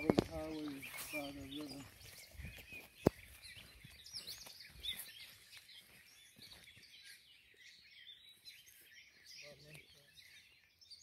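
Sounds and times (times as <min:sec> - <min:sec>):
songbirds chirping and warbling: 0:00.0 - 0:11.0.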